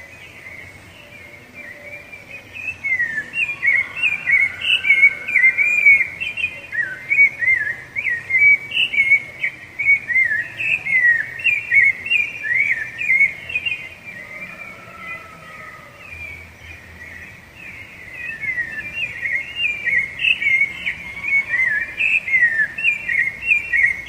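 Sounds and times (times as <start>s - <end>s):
thrush singing whistled phrases: 0.0s - 14.8s, 17.6s - 24.0s.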